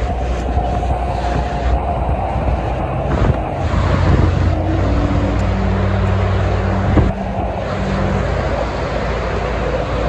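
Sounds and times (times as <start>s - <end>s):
highway traffic roar: 0.0s - 10.0s
truck engine drone: 0.0s - 10.0s.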